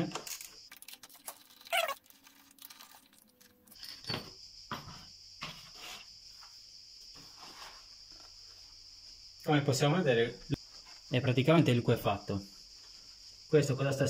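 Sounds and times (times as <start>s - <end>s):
steady high-pitched hiss: 2.2s - 14.0s.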